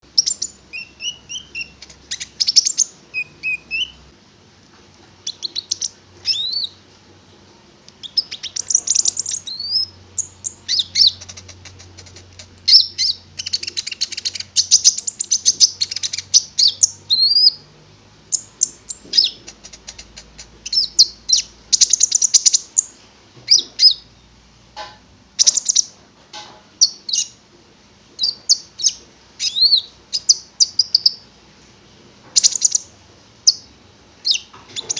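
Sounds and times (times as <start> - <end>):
songbird singing: 0.0 - 4.1, 5.2 - 6.8, 7.9 - 17.7, 18.3 - 24.4, 25.4 - 26.0, 26.8 - 27.4, 28.2 - 31.3, 32.3 - 34.9.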